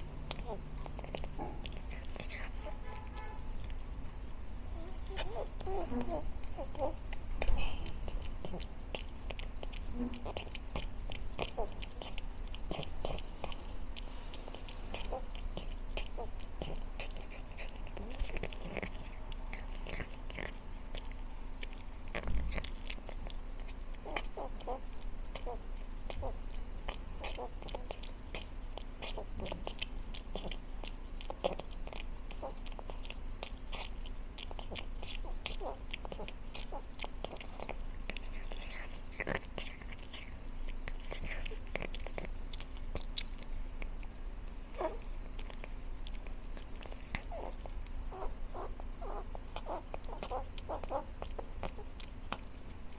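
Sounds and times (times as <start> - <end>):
cat crunching food: 0.0 - 52.9.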